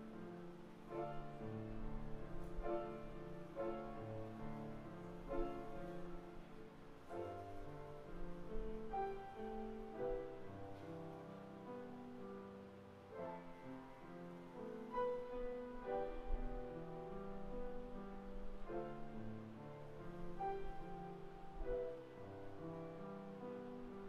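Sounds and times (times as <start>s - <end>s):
slow piano chords and melody: 0.0s - 24.0s.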